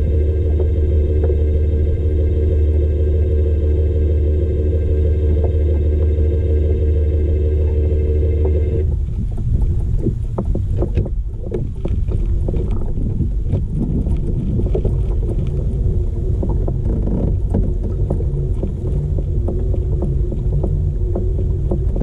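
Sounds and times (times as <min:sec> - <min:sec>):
water lapping against a kayak hull: 0:00.0 - 0:22.0
wind rumble on microphone: 0:00.0 - 0:22.0.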